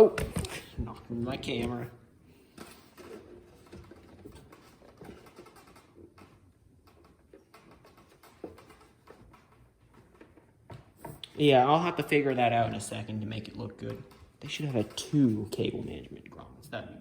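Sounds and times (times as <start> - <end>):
cables clicking and rustling: 0.0 - 16.6.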